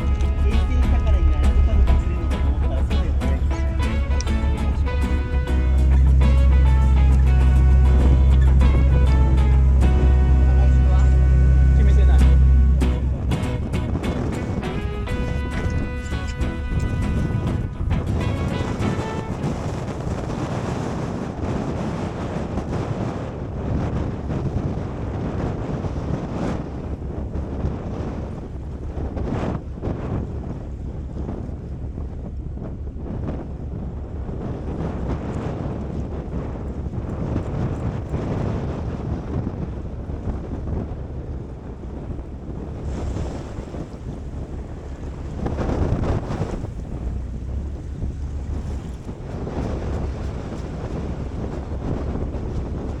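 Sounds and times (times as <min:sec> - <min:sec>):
waves washing: 0:00.0 - 0:53.0
wind buffeting microphone: 0:00.0 - 0:53.0.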